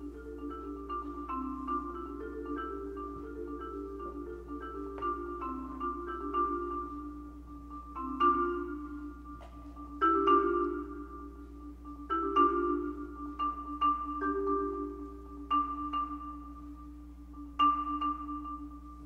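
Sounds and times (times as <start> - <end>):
marimba chords: 0.0 - 19.0.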